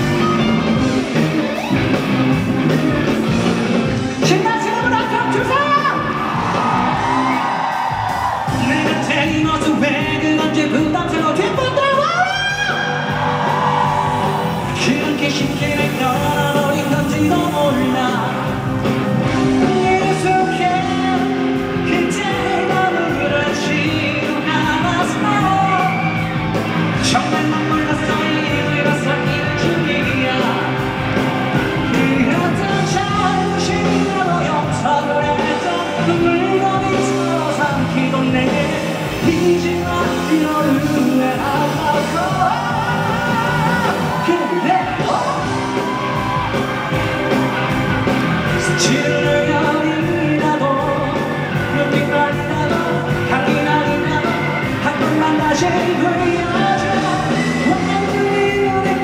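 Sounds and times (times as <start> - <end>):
live pop music in a hall: 0.0 - 59.0
person singing: 8.1 - 46.7, 48.1 - 59.0.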